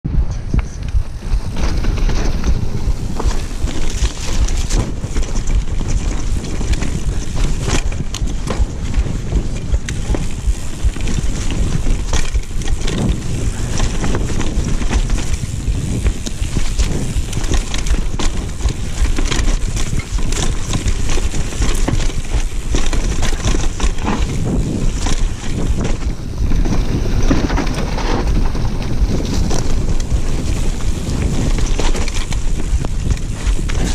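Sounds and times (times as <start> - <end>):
wind rumbling on microphone: 0.0 - 33.9
bike clicks and rattles: 0.1 - 33.9
tyres on dirt: 0.2 - 33.9.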